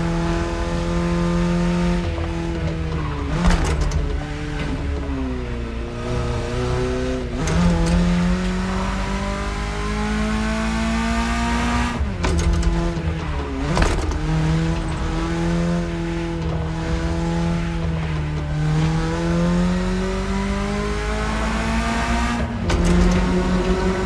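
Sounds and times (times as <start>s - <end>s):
car engine accelerating through gears: 0.0s - 24.0s.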